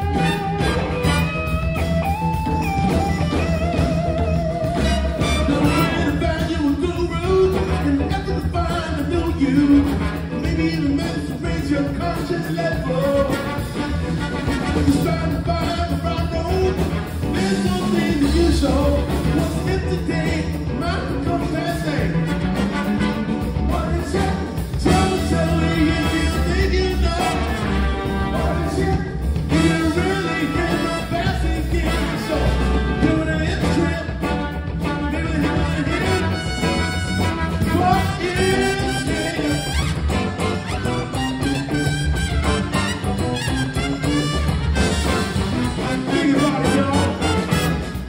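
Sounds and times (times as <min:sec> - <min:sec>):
horn section: 0:00.0 - 0:48.0
live funk band playing: 0:00.0 - 0:48.0
man singing lead vocal: 0:03.0 - 0:41.6, 0:44.0 - 0:48.0.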